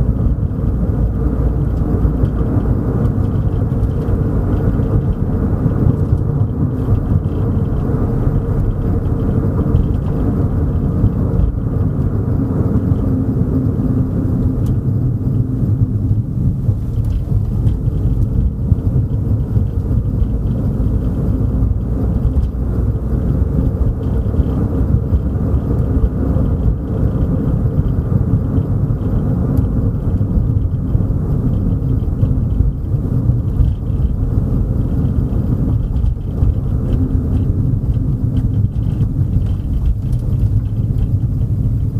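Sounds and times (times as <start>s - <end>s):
car interior road rumble: 0.0s - 41.9s.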